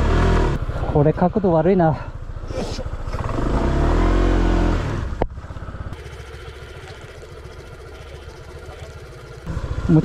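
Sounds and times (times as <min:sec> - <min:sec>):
scooter engine revving and idling: 0:00.0 - 0:10.0.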